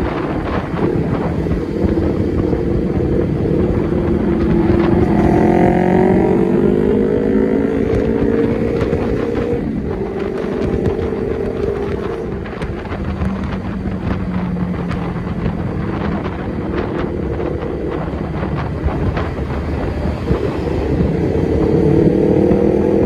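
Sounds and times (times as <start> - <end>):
vehicle engine running: 0.0 - 23.0
wind buffeting microphone: 0.0 - 23.0.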